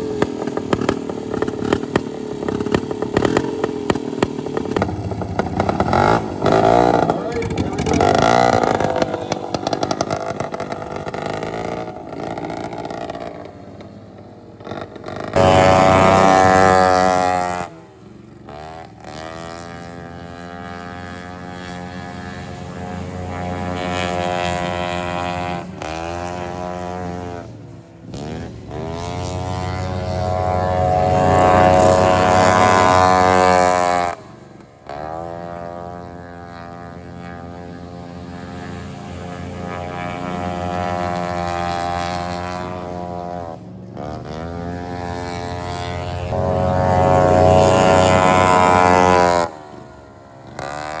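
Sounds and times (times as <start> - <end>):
racing lawnmower engines: 0.0 - 51.0.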